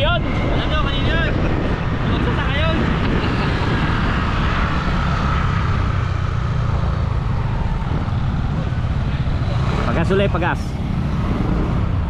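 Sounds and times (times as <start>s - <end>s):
engine drone: 0.0s - 12.0s
rushing wind: 0.0s - 12.0s.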